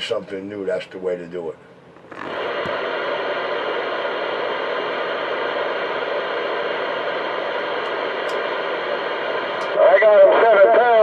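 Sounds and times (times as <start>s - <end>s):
radio static hiss: 2.1s - 11.0s.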